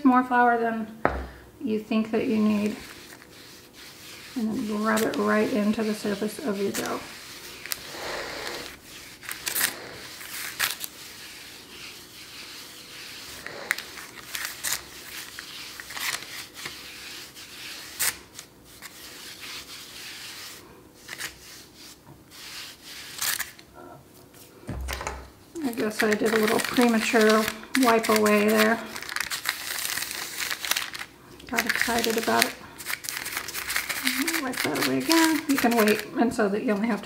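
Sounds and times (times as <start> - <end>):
palm rubbing flour into dough: 2.2 - 23.6, 25.7 - 37.0
parchment paper crinkling: 2.3 - 23.7, 25.6 - 37.0.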